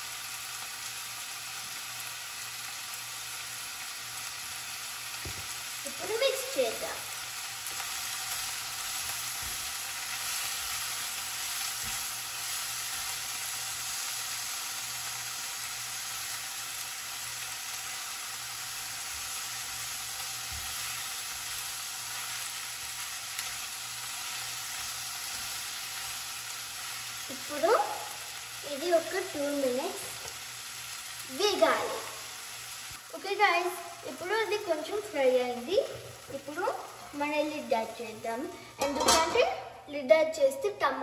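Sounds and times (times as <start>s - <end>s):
vegetables sizzling in a pan: 0.0s - 41.0s.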